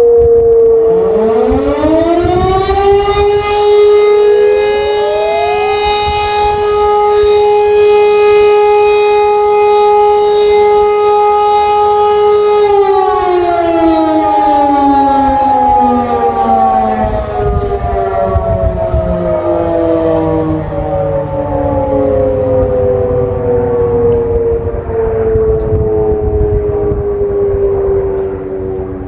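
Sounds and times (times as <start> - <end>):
civil defence sirens wailing: 0.0 - 29.0.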